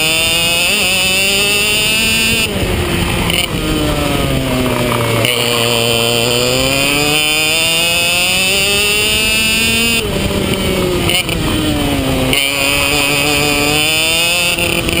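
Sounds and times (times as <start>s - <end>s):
kart engine revving: 0.0s - 15.0s.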